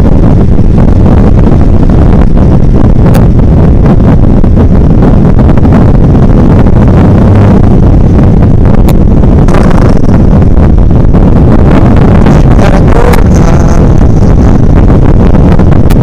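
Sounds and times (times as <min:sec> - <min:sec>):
motorcycle engine running: 0:00.0 - 0:16.0
road noise: 0:00.0 - 0:16.0
wind buffeting microphone: 0:00.0 - 0:16.0.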